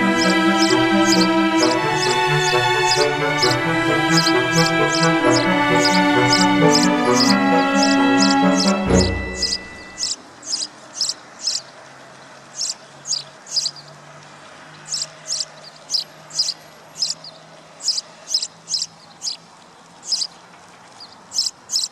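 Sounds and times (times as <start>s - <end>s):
small bird chirping: 0.0s - 3.5s, 4.1s - 11.7s, 12.6s - 13.9s, 14.8s - 19.4s, 20.0s - 20.4s, 21.0s - 21.9s.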